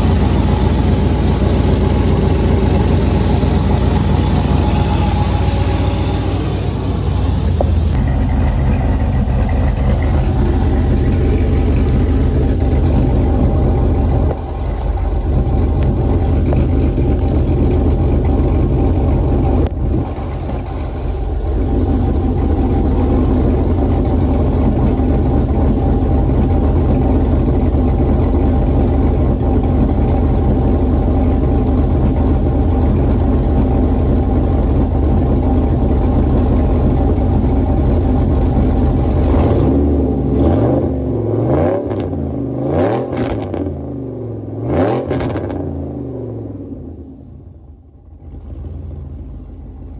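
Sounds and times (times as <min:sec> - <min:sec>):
car engine idling: 0:00.0 - 0:41.5, 0:42.1 - 0:49.9.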